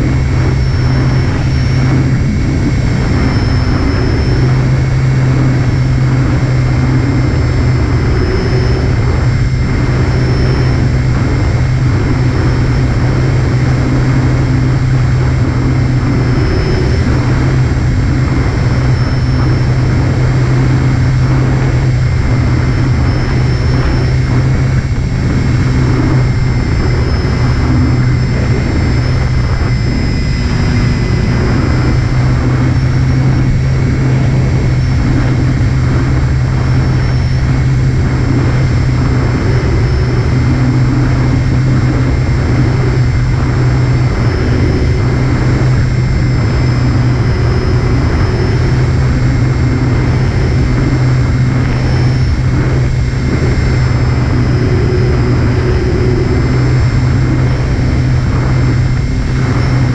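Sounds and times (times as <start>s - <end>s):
electric motor and propeller drone: 0.0s - 59.9s
rushing airflow: 0.0s - 59.9s.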